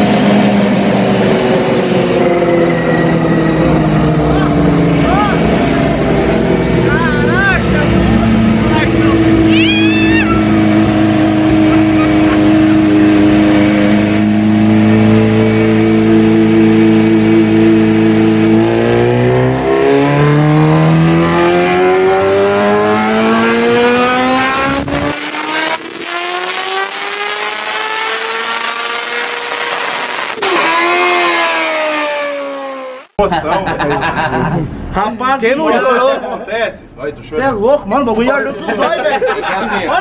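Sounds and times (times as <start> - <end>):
motorcycle engine revving on dyno: 0.0 - 33.2.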